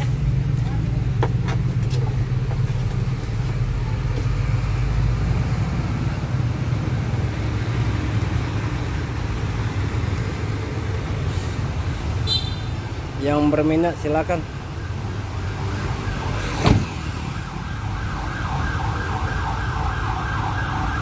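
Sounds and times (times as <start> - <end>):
vehicle engine humming: 0.0 - 20.4.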